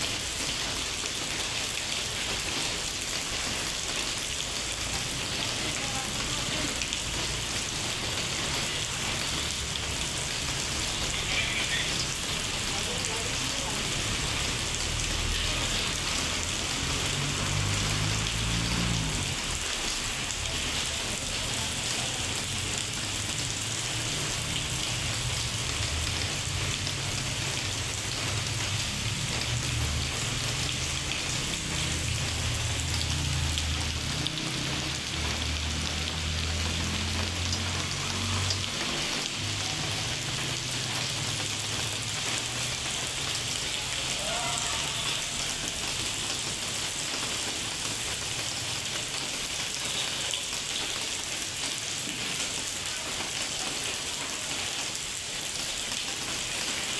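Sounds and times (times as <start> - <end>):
heavy rain on hard surfaces: 0.0 - 56.9.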